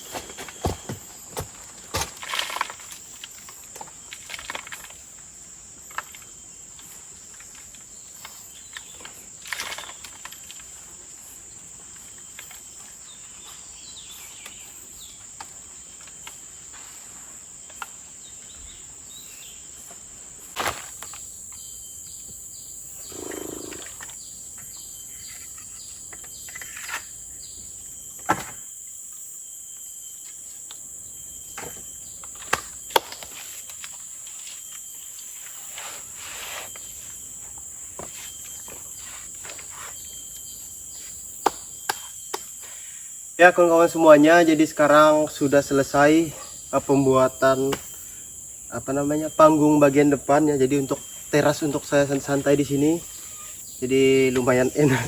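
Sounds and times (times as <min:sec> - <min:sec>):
insects droning: 0:00.0 - 0:55.0
pulsing insect call: 0:00.0 - 0:55.0.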